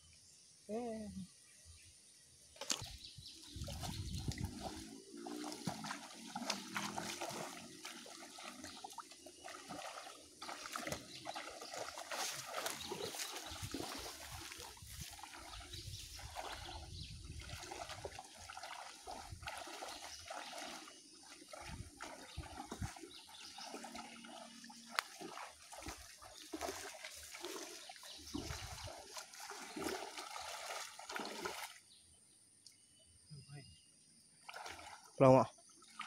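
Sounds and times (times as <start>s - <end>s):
muddy water sloshing: 2.6s - 31.9s, 34.4s - 36.0s.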